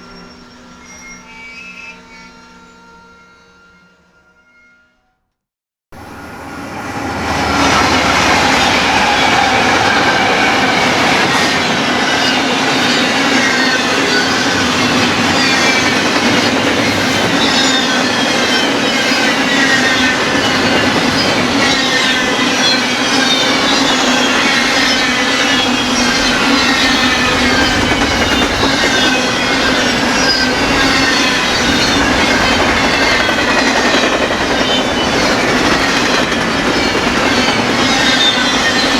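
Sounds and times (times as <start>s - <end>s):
wheel squeals: 0.0s - 4.8s, 7.6s - 38.9s
freight train wheels clattering: 7.2s - 38.9s.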